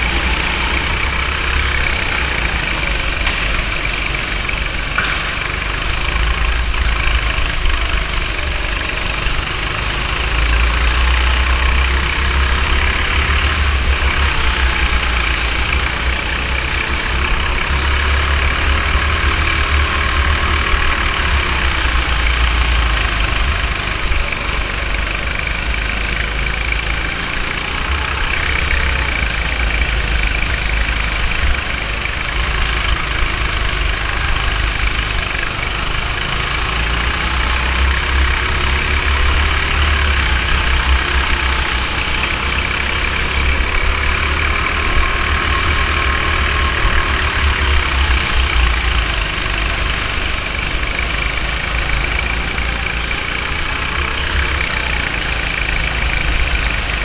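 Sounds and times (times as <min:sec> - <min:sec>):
go-kart engine running: 0:00.0 - 0:57.0
heavy low rumble: 0:00.0 - 0:57.0.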